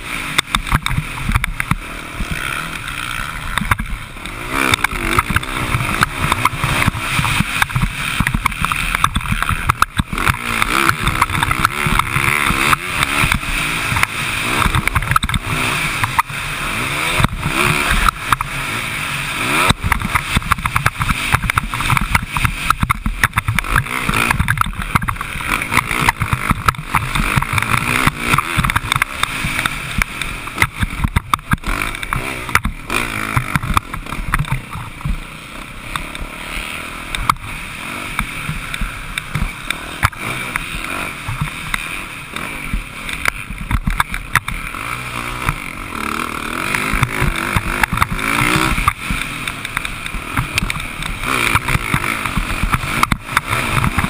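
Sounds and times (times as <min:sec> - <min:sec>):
bike knocks and rattles: 0:00.0 - 0:54.0
dirt bike engine revving: 0:00.0 - 0:54.0.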